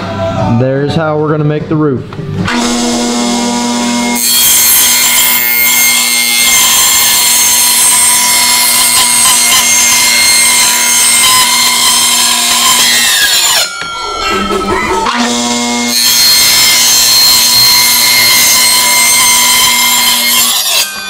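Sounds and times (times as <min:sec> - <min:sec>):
table saw cutting plywood: 0:02.4 - 0:21.0.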